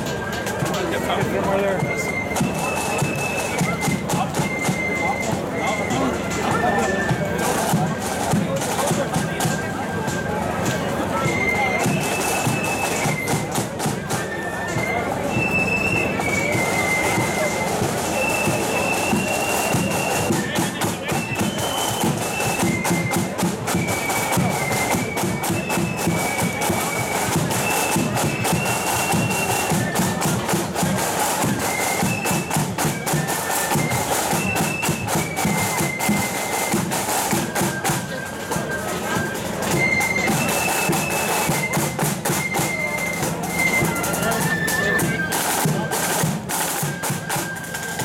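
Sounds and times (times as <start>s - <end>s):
flute melody: 0.0s - 48.0s
snare drum strokes: 0.0s - 48.0s.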